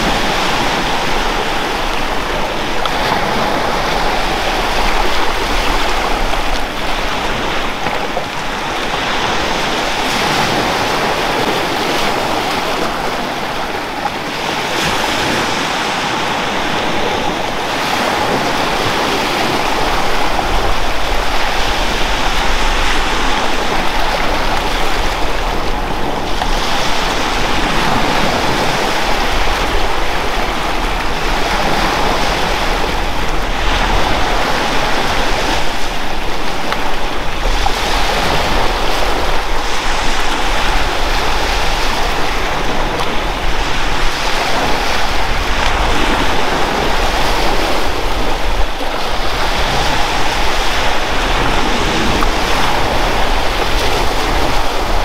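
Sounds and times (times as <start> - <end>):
sea waves washing onto beach: 0.0 - 55.0.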